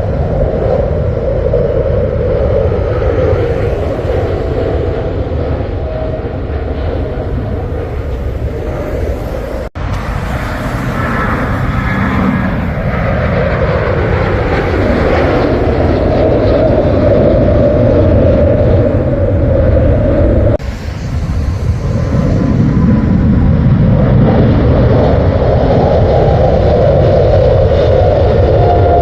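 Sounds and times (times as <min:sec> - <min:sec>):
jet engines at takeoff power: 0:00.0 - 0:29.0.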